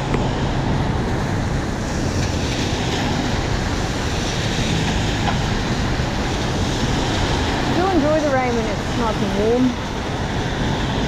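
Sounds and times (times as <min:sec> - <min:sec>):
heavy rain on street: 0:00.0 - 0:11.0
low traffic hum: 0:00.0 - 0:11.0.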